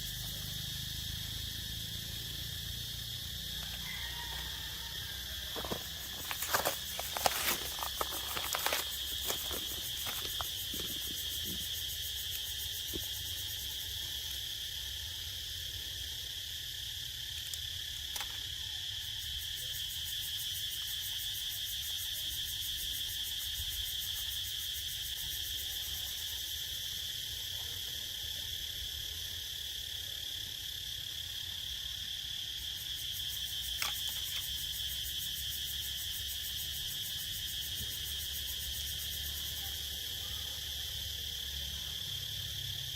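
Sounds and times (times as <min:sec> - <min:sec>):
insect chorus droning: 0:00.0 - 0:42.9.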